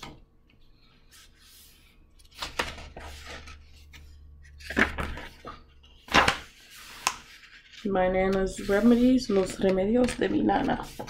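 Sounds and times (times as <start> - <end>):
book pages rustling: 0.8 - 11.0.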